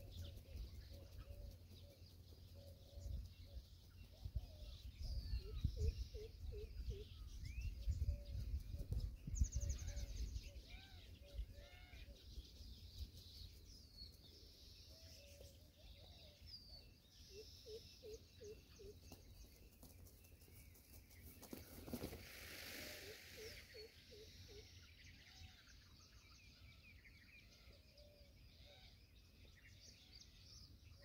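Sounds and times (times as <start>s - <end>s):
birds chirping and whistling: 0.0s - 19.9s, 20.5s - 31.0s.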